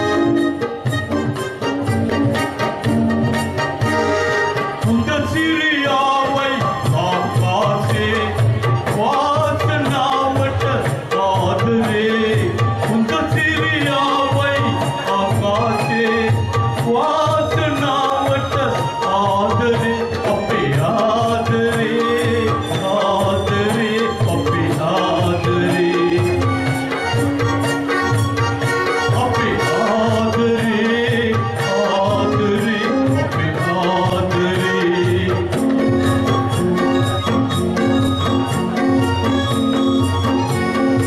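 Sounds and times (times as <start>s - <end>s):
acoustic guitar: 0.0s - 41.0s
hand drums beat: 0.0s - 41.0s
keyboard: 0.0s - 41.0s
man singing into microphone: 4.7s - 27.2s, 28.6s - 41.0s.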